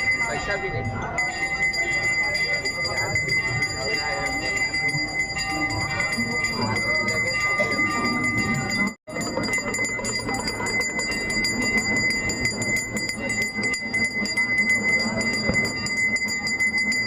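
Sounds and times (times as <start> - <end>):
bells ringing rapidly: 0.0 - 17.0
crowd voices: 0.0 - 17.0.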